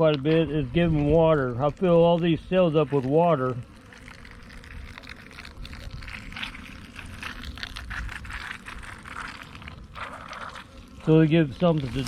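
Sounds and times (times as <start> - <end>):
water splashing and trickling: 0.1 - 12.0.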